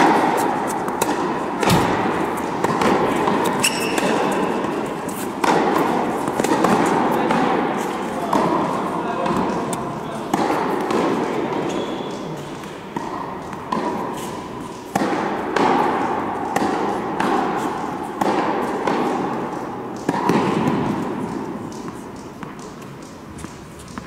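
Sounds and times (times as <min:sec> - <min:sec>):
tennis balls bouncing: 0:00.0 - 0:24.0
tennis balls struck by rackets: 0:00.0 - 0:24.0.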